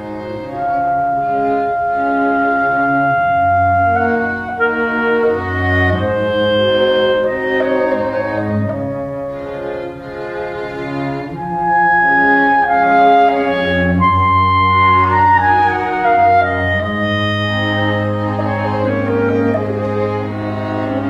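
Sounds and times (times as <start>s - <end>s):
clarinet and string quartet playing: 0.0s - 21.0s.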